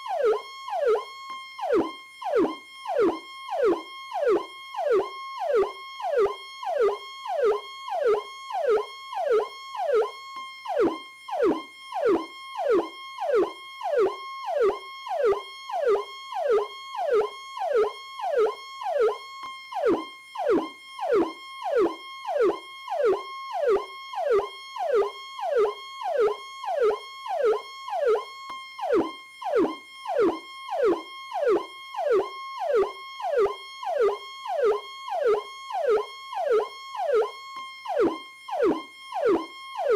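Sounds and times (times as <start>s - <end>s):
electronic siren: 0.0s - 39.9s.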